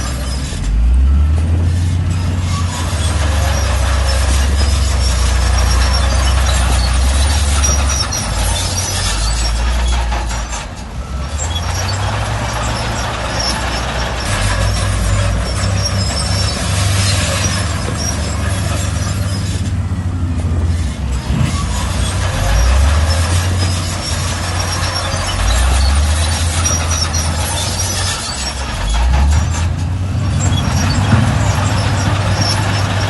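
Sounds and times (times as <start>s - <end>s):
deep diesel engine rumble: 0.0s - 33.0s
high metallic squeaks: 0.0s - 33.0s
machinery clatter: 0.0s - 33.0s.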